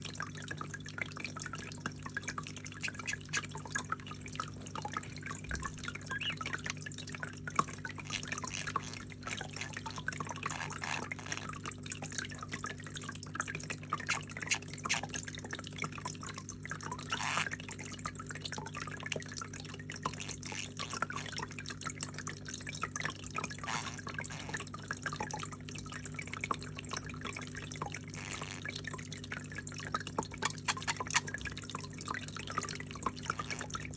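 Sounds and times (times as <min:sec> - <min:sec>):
fountain water trickling: 0:00.0 - 0:33.9
pump humming: 0:00.0 - 0:33.9.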